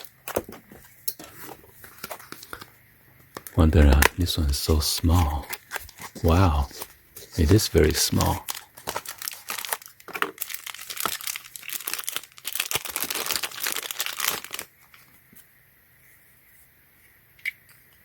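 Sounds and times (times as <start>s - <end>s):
packaging crinkling: 0.0s - 15.2s.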